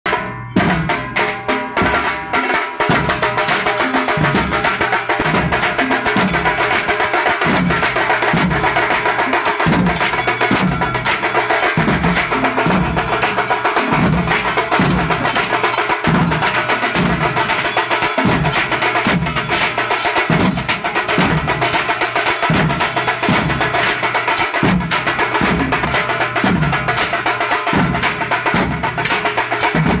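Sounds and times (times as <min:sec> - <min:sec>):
barrel drums beaten with sticks: 0:00.1 - 0:30.0.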